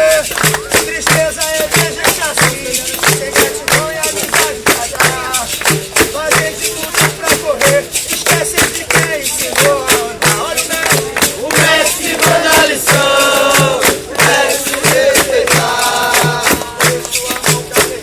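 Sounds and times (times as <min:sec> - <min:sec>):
berimbaus and hand percussion: 0:00.0 - 0:18.0
group of voices singing: 0:00.0 - 0:18.0.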